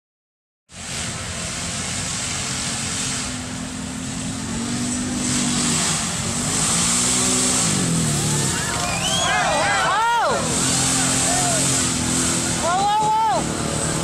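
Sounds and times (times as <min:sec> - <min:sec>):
quad engine running hard: 0:00.8 - 0:14.0.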